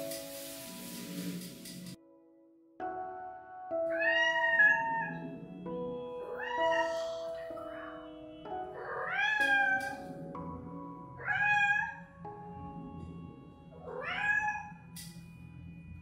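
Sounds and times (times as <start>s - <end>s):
background music with sustained tones: 0.0s - 16.0s.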